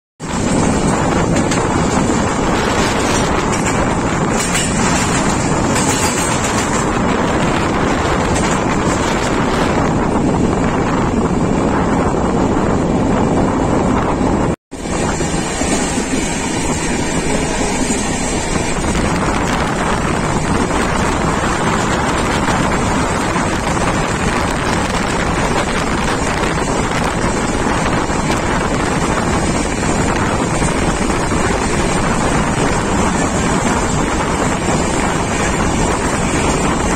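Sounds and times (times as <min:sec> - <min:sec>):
train rumbling at speed: 0:00.2 - 0:36.9
wind noise on microphone: 0:00.2 - 0:36.9.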